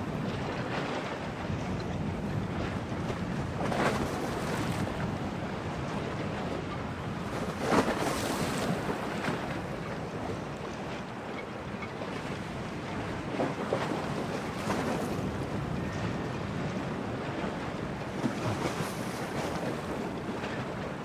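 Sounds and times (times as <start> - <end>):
strong wind: 0.0 - 21.0.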